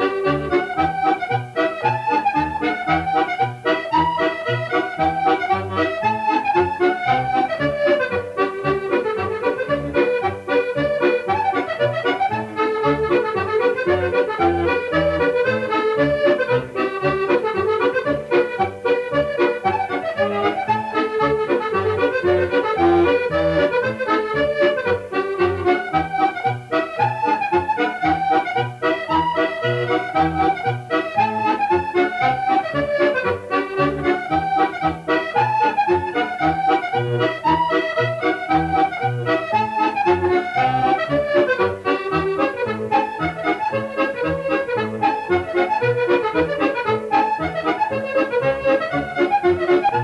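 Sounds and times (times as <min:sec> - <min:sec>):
accordion playing tune: 0:00.0 - 0:50.0.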